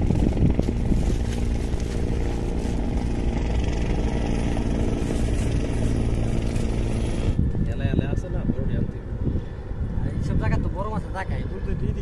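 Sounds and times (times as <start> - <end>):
engine droning steadily: 0.0 - 12.0.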